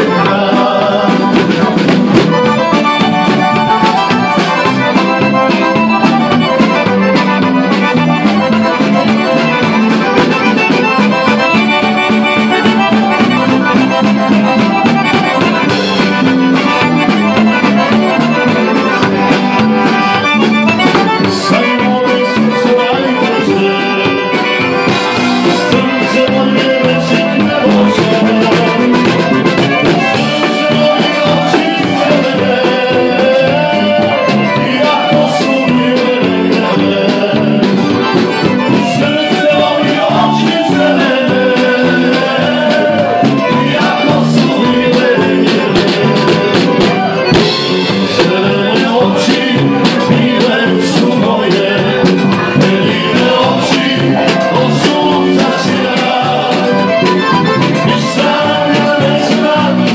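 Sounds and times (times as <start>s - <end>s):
acoustic guitar: 0.0s - 59.9s
drum kit steady beat: 0.0s - 59.9s
piano accordion: 0.0s - 59.9s.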